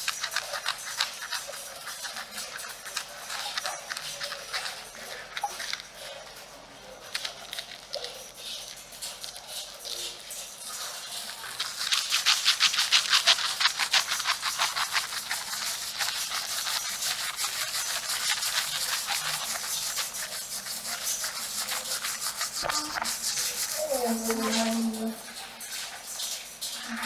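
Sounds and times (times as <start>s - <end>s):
fingertips scrubbing hair: 0.0s - 26.3s.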